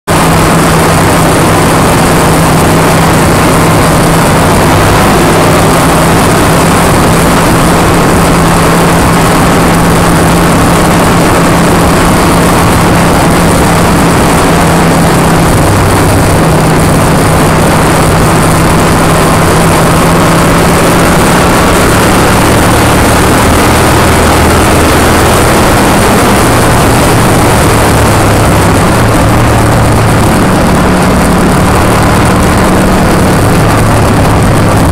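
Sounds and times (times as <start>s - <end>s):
motorcycle engine running: 0.0s - 34.9s
wind rush over microphone: 0.1s - 34.9s.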